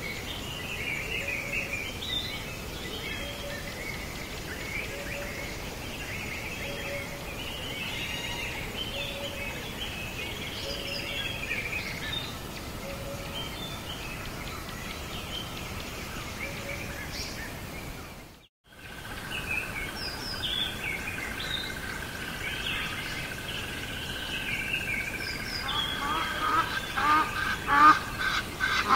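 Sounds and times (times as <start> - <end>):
small birds chirping and singing: 0.0 - 28.9
steady background hiss: 0.0 - 28.9.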